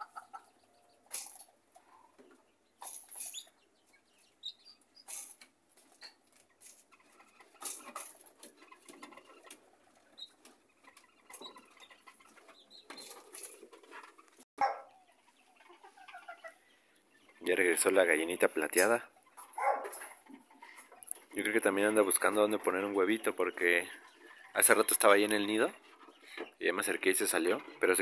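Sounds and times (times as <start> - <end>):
hen clucking softly: 0.0 - 2.6, 5.9 - 28.0.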